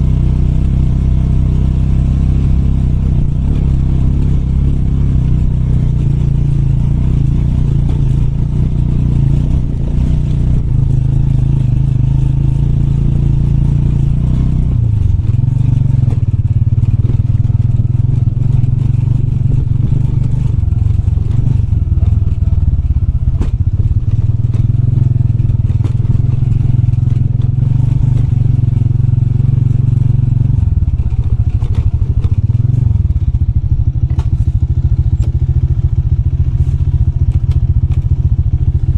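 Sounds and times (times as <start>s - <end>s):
motorbike engine running: 0.0s - 38.9s.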